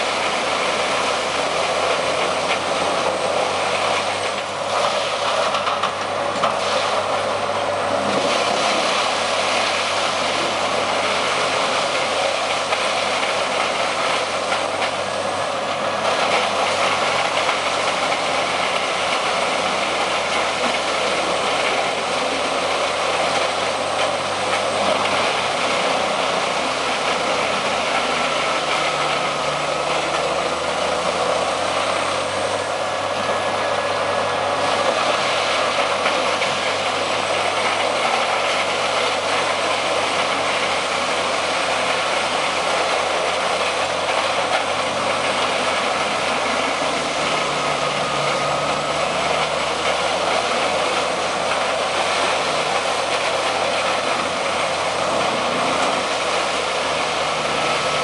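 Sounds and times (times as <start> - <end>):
wood chipper chipping logs: 0.0 - 58.0.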